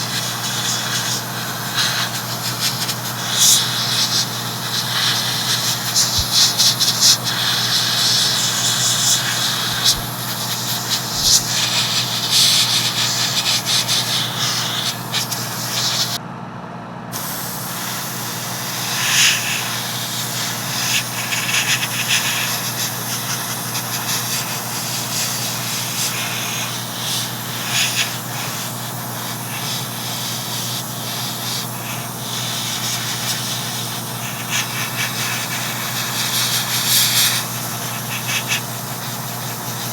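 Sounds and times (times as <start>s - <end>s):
airbrush spraying hiss: 0.0s - 16.2s, 17.2s - 39.9s
steady hum: 0.0s - 39.9s.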